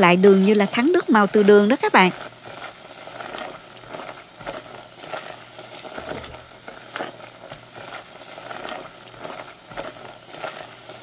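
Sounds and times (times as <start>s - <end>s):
spatula stirring in pot: 0.0s - 11.0s
thick juice simmering and popping: 0.0s - 11.0s.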